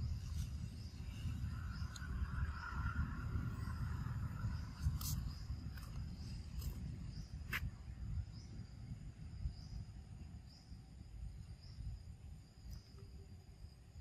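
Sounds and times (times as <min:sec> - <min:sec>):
low rumble: 0:00.0 - 0:12.0
insect chirping softly: 0:00.0 - 0:14.0.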